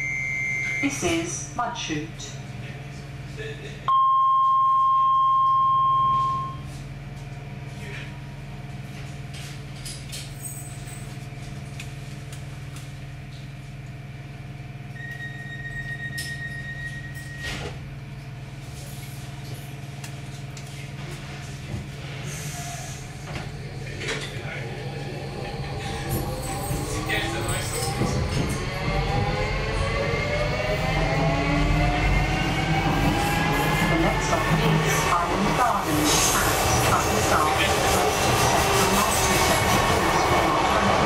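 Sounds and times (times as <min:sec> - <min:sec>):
train low electrical hum: 0:00.0 - 0:41.0.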